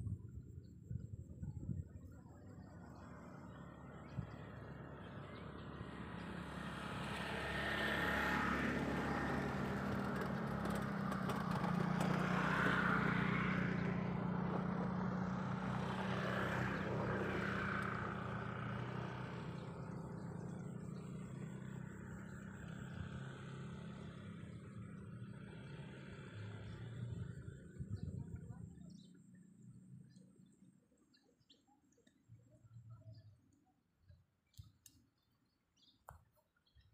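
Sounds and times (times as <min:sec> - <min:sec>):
distant engine droning: 0:00.0 - 0:34.2.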